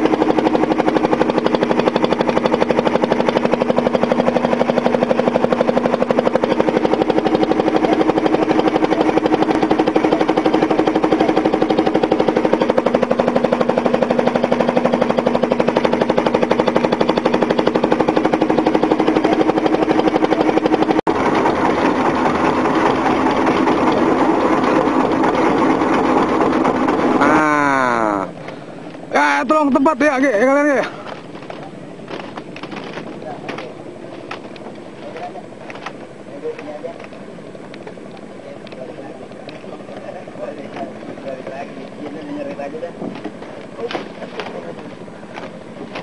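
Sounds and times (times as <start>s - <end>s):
small engine puttering: 0.0s - 46.0s.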